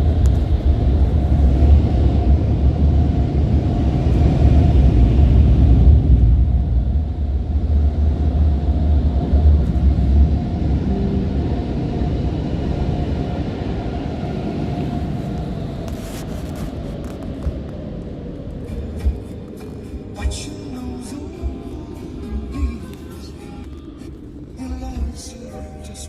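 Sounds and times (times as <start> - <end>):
car wash machinery rumble: 0.0 - 26.0.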